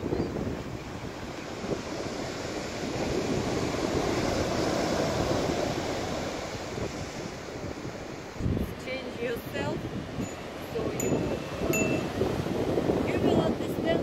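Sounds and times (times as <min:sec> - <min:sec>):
surf breaking on beach: 0:00.0 - 0:14.0
wind on microphone: 0:00.0 - 0:14.0.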